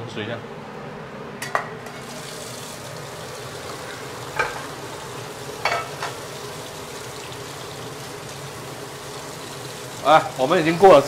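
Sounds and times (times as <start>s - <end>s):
sauce hissing in a wok: 2.0s - 11.0s.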